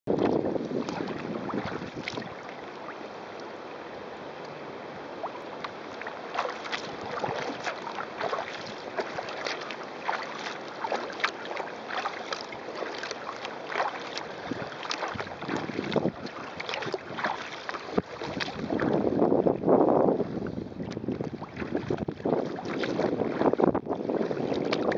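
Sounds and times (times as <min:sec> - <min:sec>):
wind buffeting microphone: 0:00.1 - 0:02.4, 0:06.3 - 0:13.1, 0:13.7 - 0:24.9
water slapping along a hull: 0:00.1 - 0:24.9.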